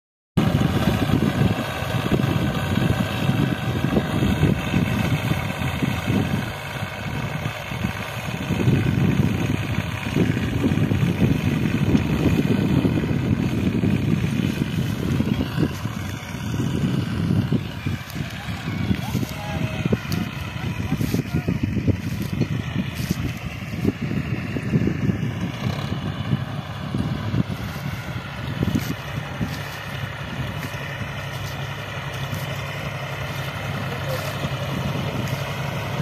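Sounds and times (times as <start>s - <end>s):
tractor engine running: 0.4s - 36.0s.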